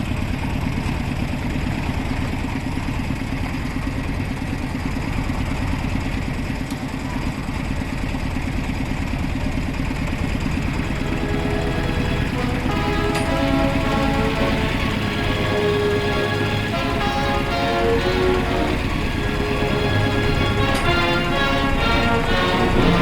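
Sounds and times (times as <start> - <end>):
engine chugging: 0.1 - 23.0.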